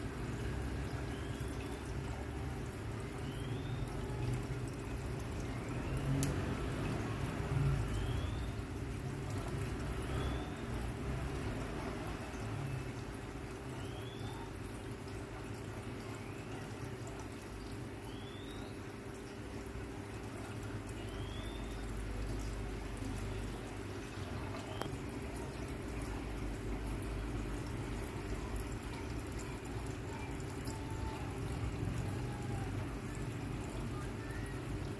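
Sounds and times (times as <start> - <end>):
aquarium filter water trickling: 0.0 - 34.9.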